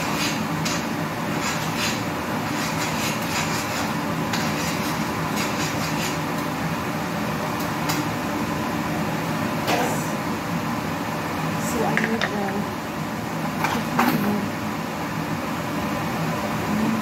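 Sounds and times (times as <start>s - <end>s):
fan-like kitchen hum: 0.0s - 17.0s.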